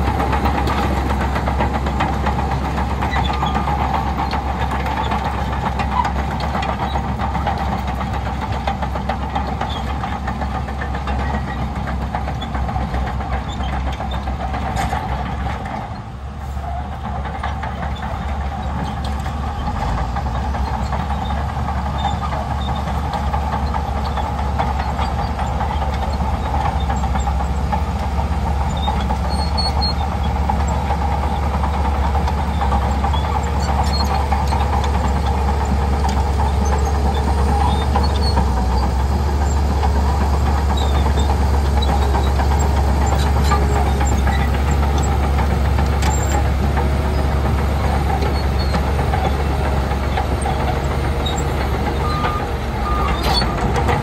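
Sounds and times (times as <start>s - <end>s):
bulldozer diesel engine: 0.0s - 54.0s
steel tracks clattering: 0.0s - 54.0s.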